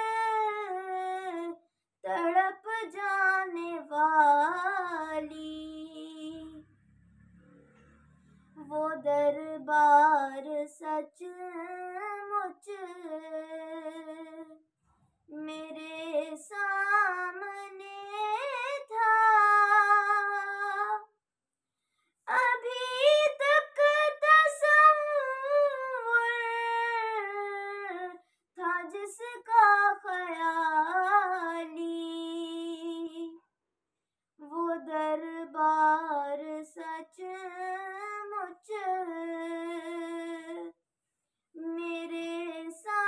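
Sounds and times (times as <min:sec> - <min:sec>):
girl singing unaccompanied: 0:00.0 - 0:06.6, 0:08.6 - 0:14.6, 0:15.3 - 0:21.1, 0:22.3 - 0:33.4, 0:34.4 - 0:40.7, 0:41.6 - 0:43.0.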